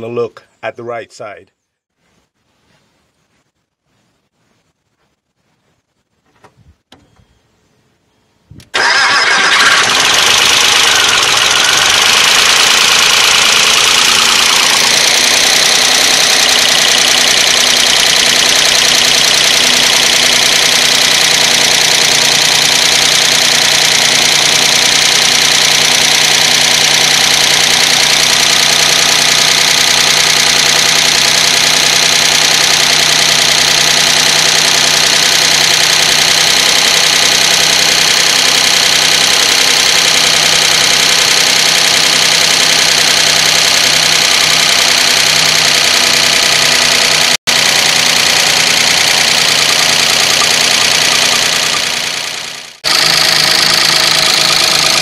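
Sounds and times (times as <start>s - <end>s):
engine valvetrain clatter: 8.7s - 55.0s.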